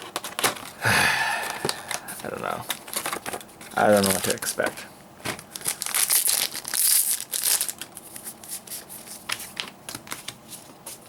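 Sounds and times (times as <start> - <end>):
foil wrappers crinkling: 1.4 - 11.0.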